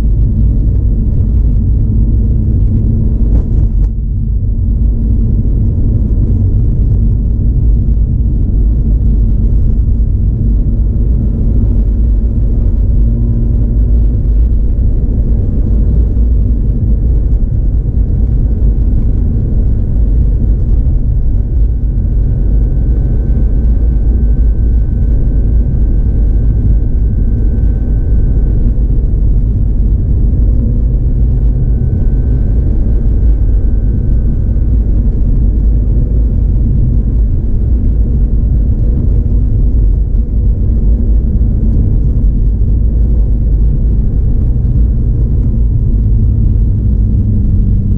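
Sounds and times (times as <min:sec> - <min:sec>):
faint whine: 0:00.0 - 0:47.9
low rumble of rotary engine: 0:00.0 - 0:47.9.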